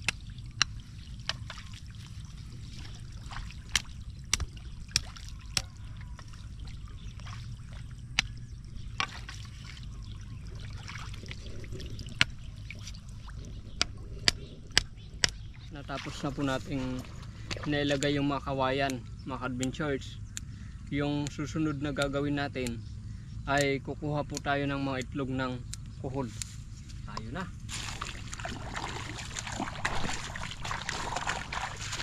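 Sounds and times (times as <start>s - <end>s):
pond water trickling and sloshing: 0.0s - 32.0s
steady low rumble: 0.0s - 32.0s.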